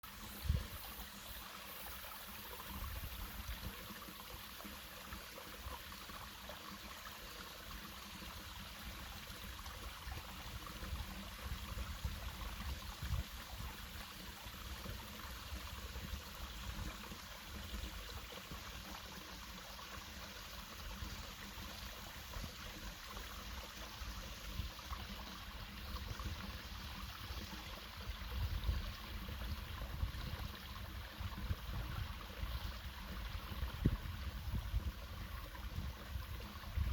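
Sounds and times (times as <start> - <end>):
stream water flowing: 0.0 - 36.9.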